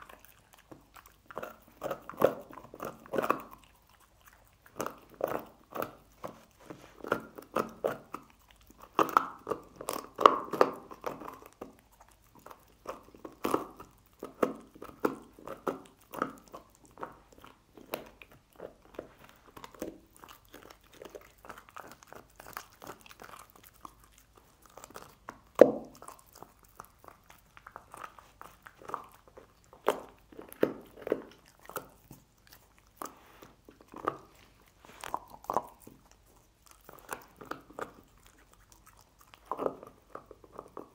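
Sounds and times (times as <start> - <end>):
dog chewing bone: 0.0 - 40.9.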